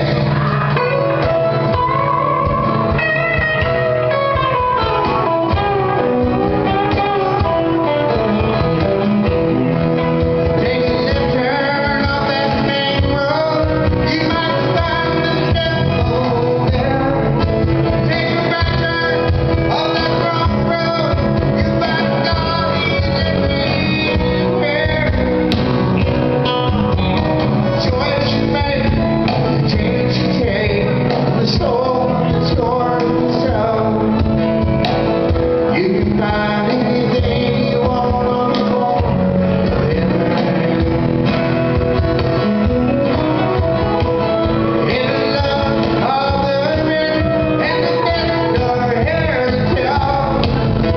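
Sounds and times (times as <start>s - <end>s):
acoustic guitar: 0.0s - 50.9s
country-rock band playing: 0.0s - 50.9s
electric bass: 0.0s - 50.9s
man singing: 0.0s - 50.9s.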